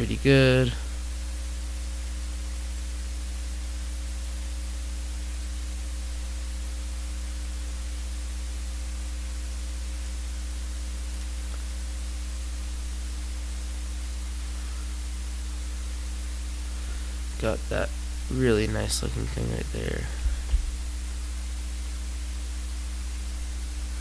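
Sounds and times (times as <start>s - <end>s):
constant hiss: 0.0s - 24.0s
electrical hum: 0.0s - 24.0s.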